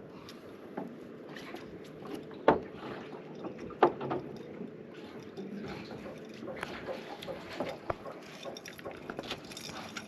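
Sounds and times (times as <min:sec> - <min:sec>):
water moving around a boat: 0:00.0 - 0:10.0.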